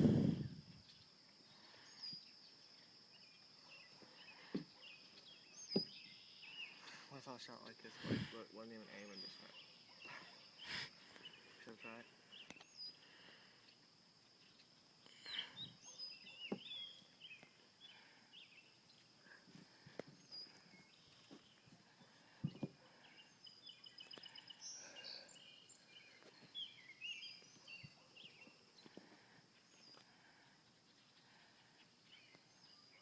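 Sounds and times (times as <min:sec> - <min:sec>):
insect drone: 0:00.0 - 0:33.0
small birds chirping: 0:00.0 - 0:33.0.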